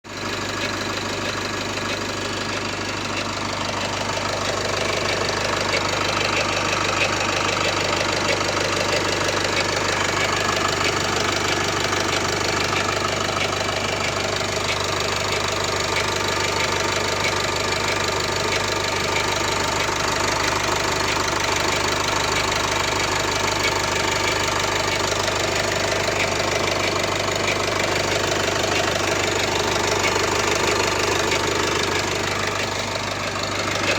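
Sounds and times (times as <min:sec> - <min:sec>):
abnormal engine noise: 0:00.0 - 0:33.9
diesel engine running: 0:00.0 - 0:33.9.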